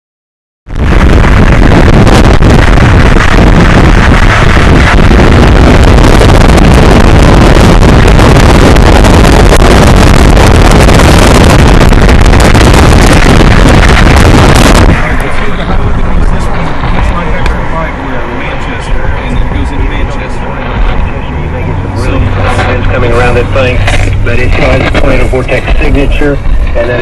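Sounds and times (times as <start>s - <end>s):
wind buffeting microphone: 0.7s - 27.0s.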